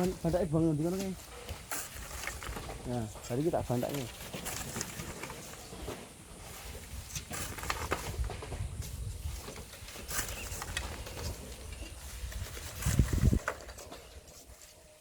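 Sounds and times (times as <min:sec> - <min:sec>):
sand scraping and pattering: 0:00.0 - 0:15.0.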